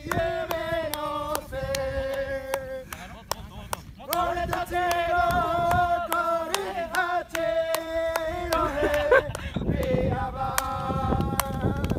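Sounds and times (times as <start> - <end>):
men chanting in unison: 0.0 - 11.9
rhythmic hand clapping: 0.0 - 11.9.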